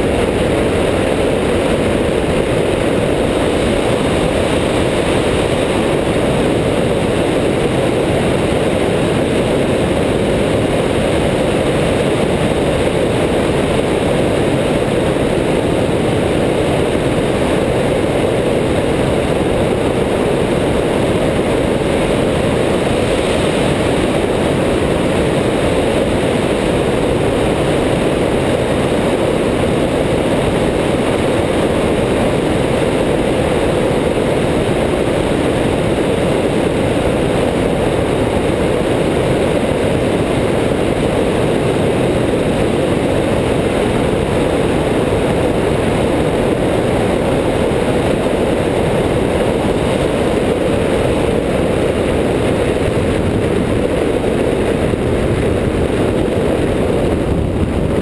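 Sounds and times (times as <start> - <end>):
airflow rushing on microphone: 0.0 - 58.0
airplane engine and propeller drone: 0.0 - 58.0.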